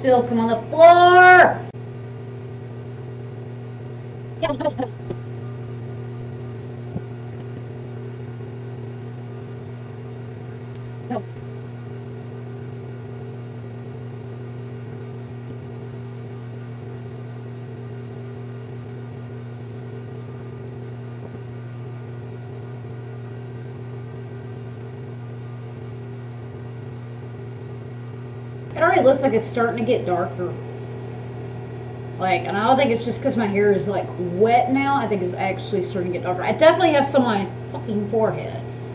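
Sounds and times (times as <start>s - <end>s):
electric fan humming: 0.0s - 38.9s.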